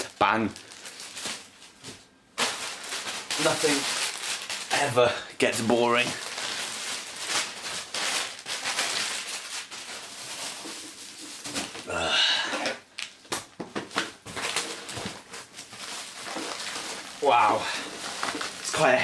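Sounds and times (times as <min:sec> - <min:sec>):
bubble wrap rustling and crinkling: 0:00.0 - 0:12.0, 0:12.6 - 0:19.0.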